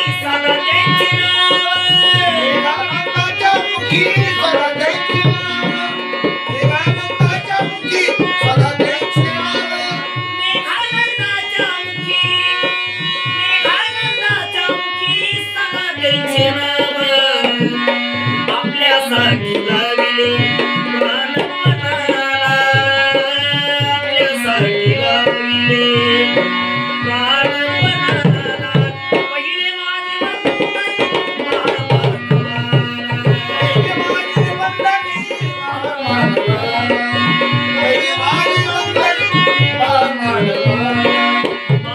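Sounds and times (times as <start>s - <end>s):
tabla playing fast rhythm: 0.0s - 41.9s.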